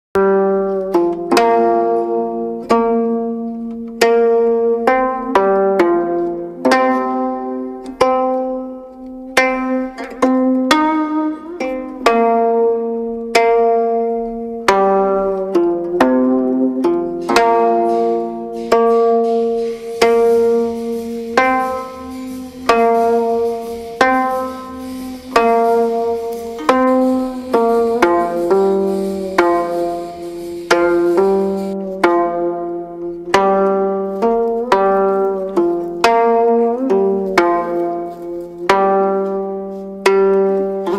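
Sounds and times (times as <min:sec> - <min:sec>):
plucked string instrument music: 0:00.2 - 0:40.9.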